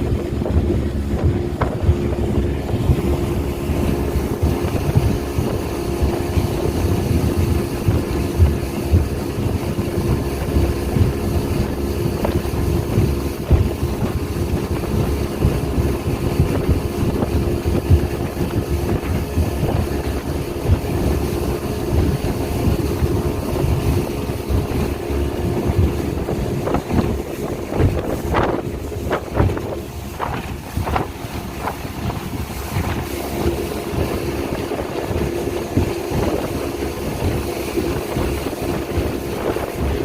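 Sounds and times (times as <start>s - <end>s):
speedboat engine drone: 0.0s - 40.0s
wind buffeting microphone: 0.0s - 40.0s.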